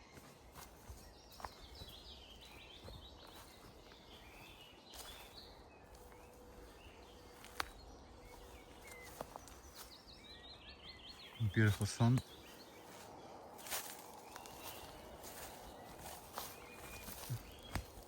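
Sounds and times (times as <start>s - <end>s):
faint songbird song: 0.0s - 18.0s.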